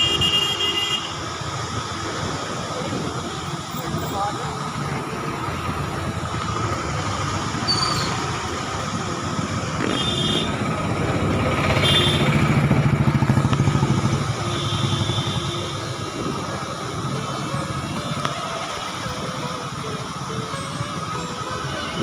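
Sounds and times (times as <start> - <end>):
motor vehicle noise: 0.0 - 22.0.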